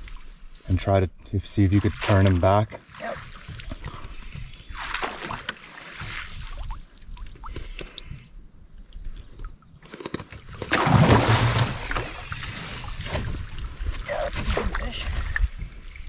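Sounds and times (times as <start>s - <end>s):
water drips and splashes: 1.5s - 9.8s, 10.6s - 16.0s
water lapping against a canoe hull: 1.5s - 16.0s.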